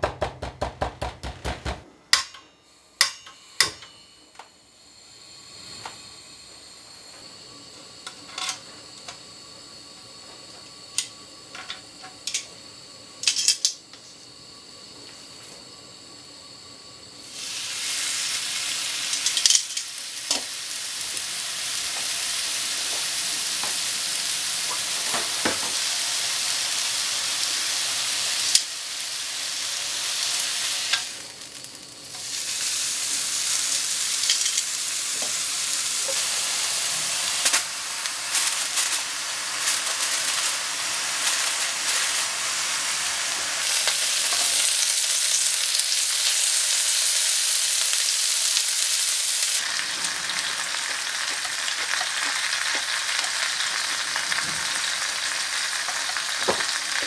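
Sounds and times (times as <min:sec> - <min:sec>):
food sizzling in a frying pan: 0:04.7 - 0:57.0.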